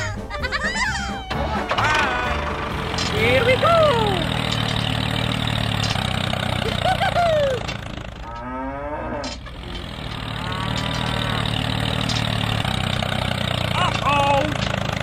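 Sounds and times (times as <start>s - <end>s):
toy tractor engine drone: 1.0s - 15.0s.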